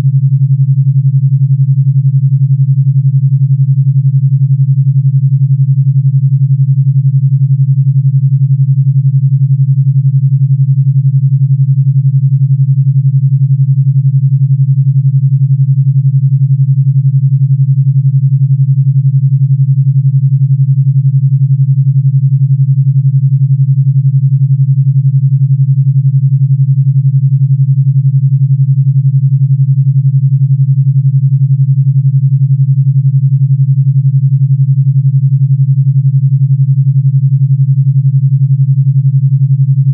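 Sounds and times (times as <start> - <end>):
low pulsing pure tone: 0.0 - 39.9.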